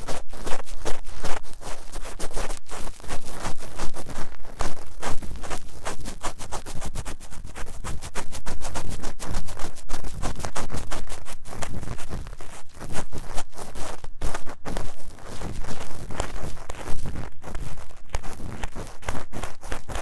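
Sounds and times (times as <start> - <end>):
tool scratching inside microphone ear: 0.0 - 20.0.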